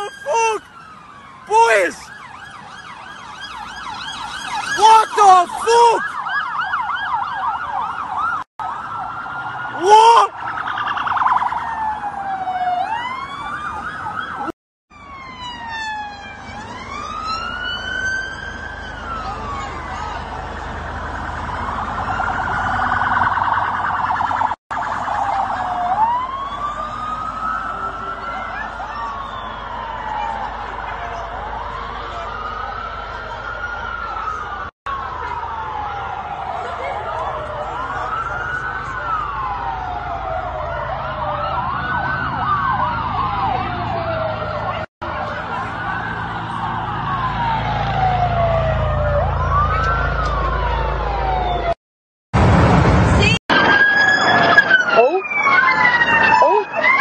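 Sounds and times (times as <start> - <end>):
police siren warbling yelp: 0.0 - 51.8, 53.5 - 57.0
siren blasts: 0.0 - 51.8, 52.4 - 57.0
sirens wailing: 0.0 - 51.8, 52.4 - 57.0.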